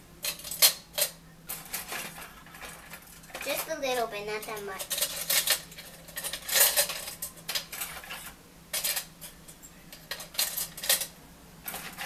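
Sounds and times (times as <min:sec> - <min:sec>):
plastic forks clattering: 0:00.2 - 0:03.8, 0:04.4 - 0:12.0.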